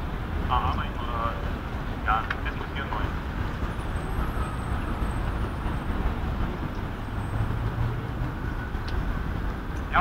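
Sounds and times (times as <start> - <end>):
heavy vehicle engine: 0.0 - 10.0
traffic rumble: 0.0 - 10.0.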